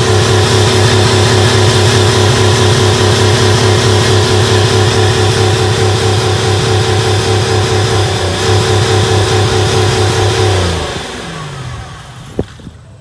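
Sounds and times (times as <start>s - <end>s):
car engine running then stalling: 0.0s - 13.0s.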